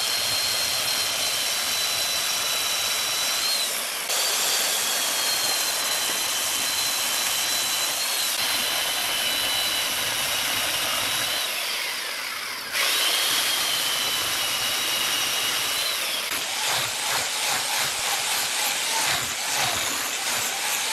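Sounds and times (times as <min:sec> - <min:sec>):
chainsaw cutting log: 0:00.0 - 0:20.9.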